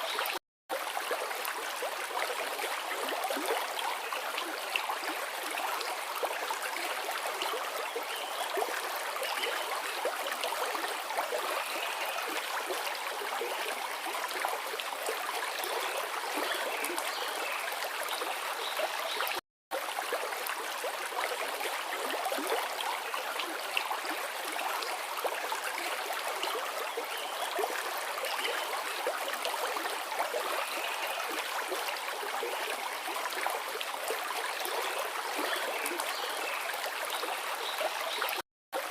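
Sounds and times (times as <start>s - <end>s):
river water rushing and babbling: 0.0s - 38.9s.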